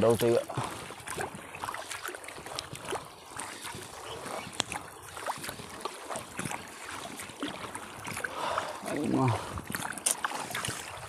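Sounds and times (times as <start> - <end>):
water sloshing and splashing: 0.0 - 11.0
wind rumbling on microphone: 0.0 - 11.0.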